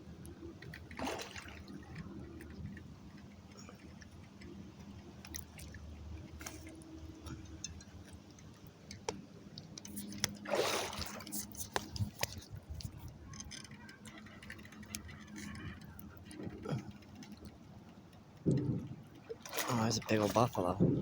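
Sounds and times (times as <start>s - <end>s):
faint river water: 0.0s - 21.0s.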